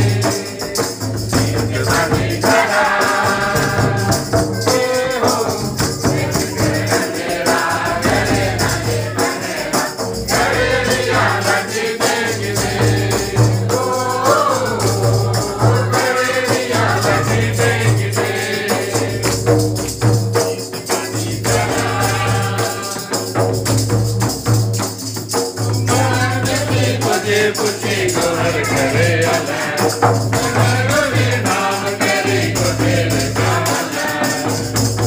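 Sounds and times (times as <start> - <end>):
group singing a carol: 0.0 - 24.0, 25.6 - 35.0
hand drum beating: 0.0 - 35.0.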